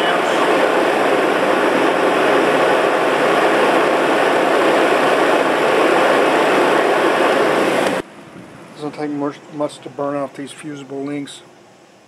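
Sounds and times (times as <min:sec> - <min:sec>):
radiator cooling fan rushing: 0:00.0 - 0:12.0.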